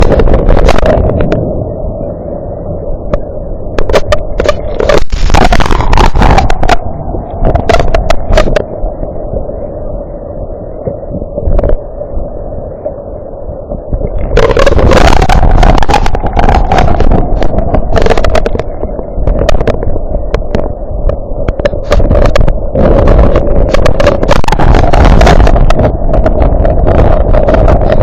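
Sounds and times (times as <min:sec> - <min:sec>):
storm wind gusting on microphone: 0:00.0 - 0:28.0.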